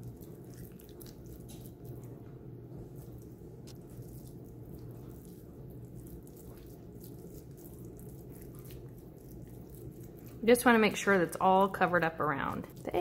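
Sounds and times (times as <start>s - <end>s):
wet squishing of meat: 0.0s - 13.0s.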